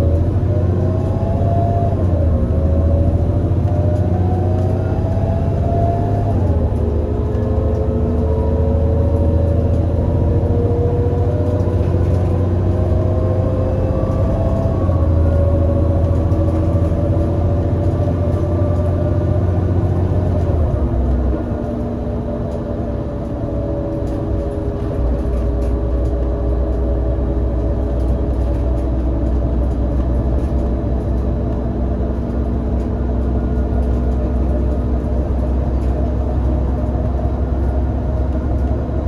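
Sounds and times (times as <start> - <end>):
bus engine accelerating: 0.0 - 39.0.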